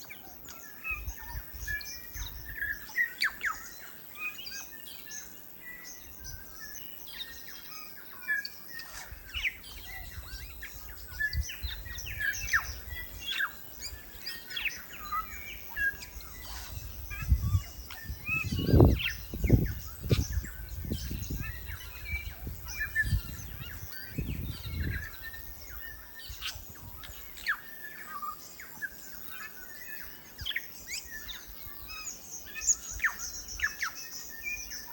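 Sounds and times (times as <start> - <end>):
birds singing chirps: 0.0 - 34.9.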